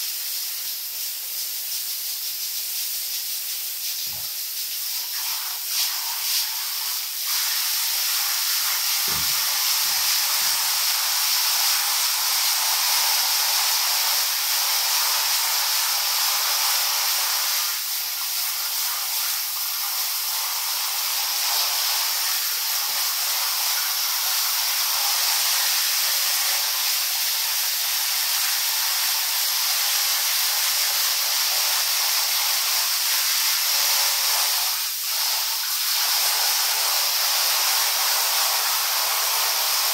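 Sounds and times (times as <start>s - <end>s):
shower spraying water: 0.0s - 39.9s.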